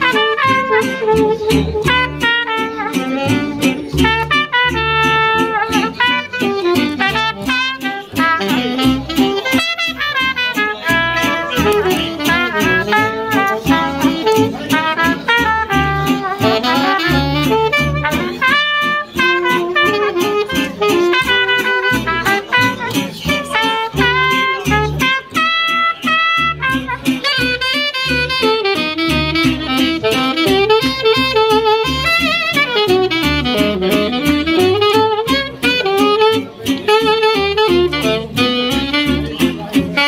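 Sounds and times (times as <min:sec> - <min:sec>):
plucked double bass: 0:00.0 - 0:40.0
saxophone: 0:00.0 - 0:40.0
trumpet: 0:00.0 - 0:40.0.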